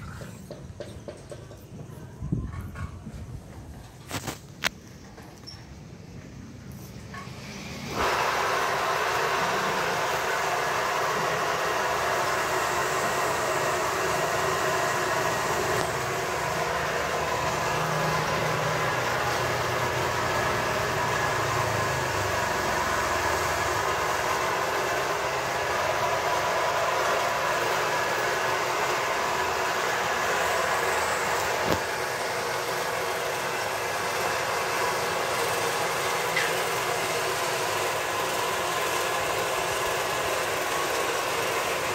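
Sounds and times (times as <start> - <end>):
machine engine humming: 6.0 - 41.9.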